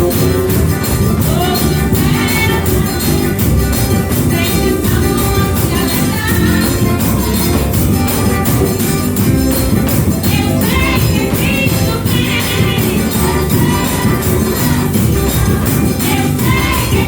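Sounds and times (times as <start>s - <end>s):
gospel band music: 0.0s - 17.0s
person singing: 0.9s - 8.9s, 9.9s - 17.0s.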